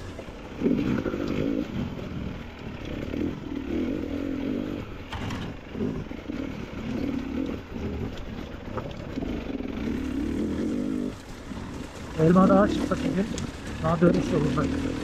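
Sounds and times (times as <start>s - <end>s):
off-road motorcycle engine revving: 0.0s - 15.0s.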